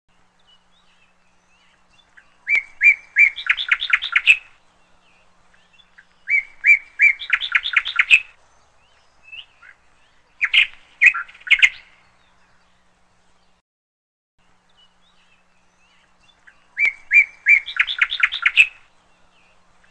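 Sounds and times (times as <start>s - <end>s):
songbird singing: 0.1s - 13.6s, 14.4s - 19.9s.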